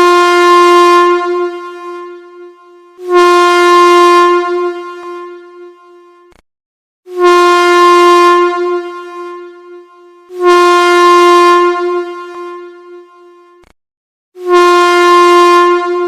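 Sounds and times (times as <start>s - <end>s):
train air horn blasts: 0.0s - 6.3s, 7.1s - 13.6s, 14.4s - 16.0s.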